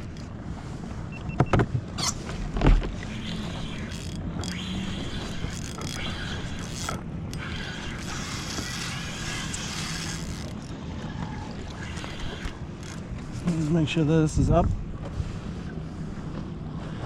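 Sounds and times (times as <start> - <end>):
knocks and creaks on kayak: 0.0 - 17.0
water noise: 0.0 - 17.0
wind: 0.0 - 17.0.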